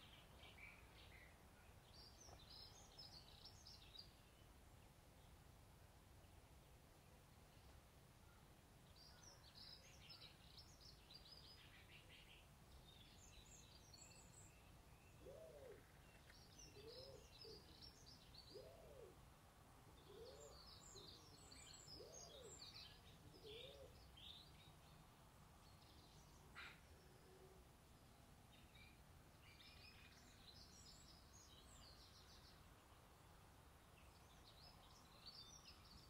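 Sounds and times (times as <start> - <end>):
small birds chirping: 0.0 - 5.4, 7.4 - 19.1, 20.0 - 27.3, 28.0 - 36.0.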